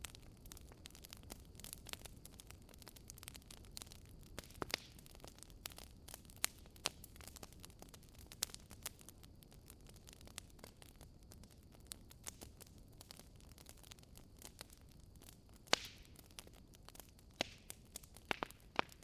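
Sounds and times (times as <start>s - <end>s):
low steady hiss: 0.0s - 19.0s
wood fire crackling: 0.0s - 19.0s.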